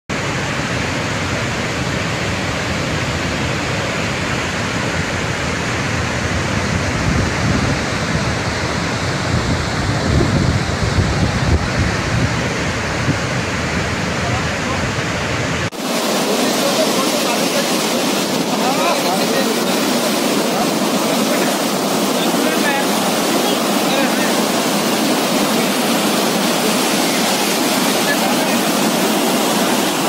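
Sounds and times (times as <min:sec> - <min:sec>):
floodwater rushing: 0:00.1 - 0:30.0.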